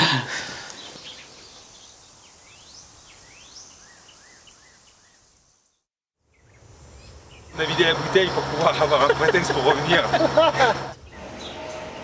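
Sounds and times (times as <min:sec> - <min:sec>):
faint countryside ambience: 0:00.0 - 0:12.0.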